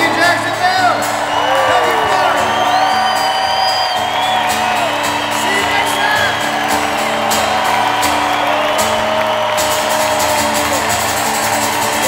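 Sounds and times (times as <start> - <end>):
live band playing: 0.0 - 12.0
crowd whooping: 0.6 - 12.0.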